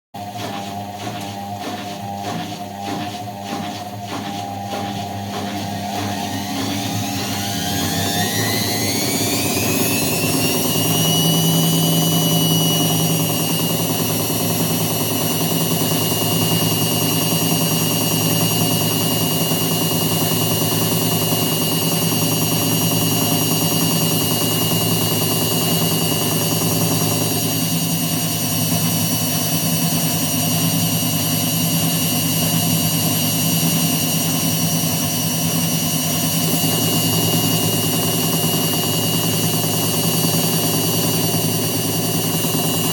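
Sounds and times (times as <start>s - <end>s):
washing machine spin motor whine: 0.1s - 42.9s.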